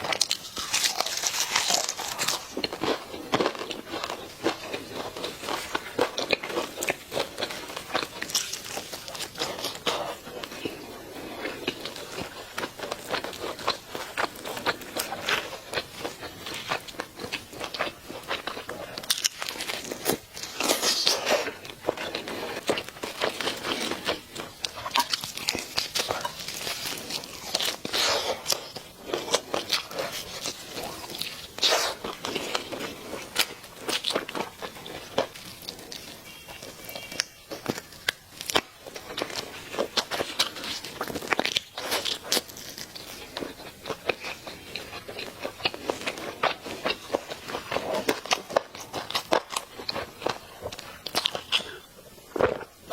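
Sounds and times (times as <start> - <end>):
fried chicken crunching: 0.0 - 52.9.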